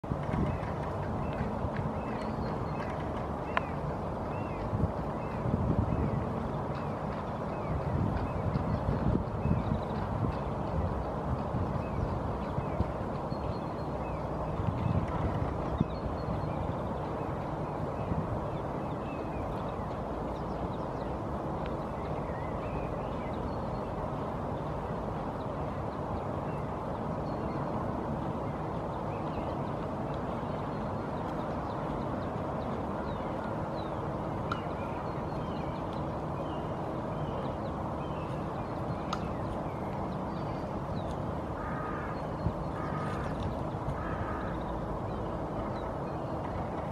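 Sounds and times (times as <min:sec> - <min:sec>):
outdoor background rumble: 0:00.0 - 0:46.9
small birds chirping: 0:00.1 - 0:46.9.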